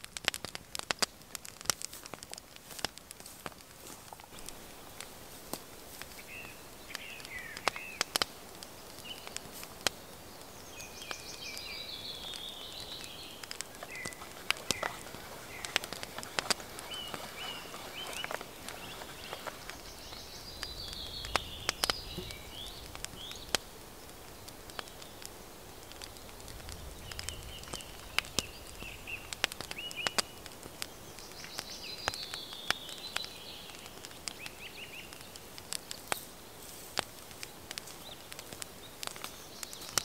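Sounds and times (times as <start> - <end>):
sharp clicks and snaps: 0.0 - 10.0, 10.9 - 36.3, 37.0 - 40.0
songbirds singing: 3.8 - 40.0.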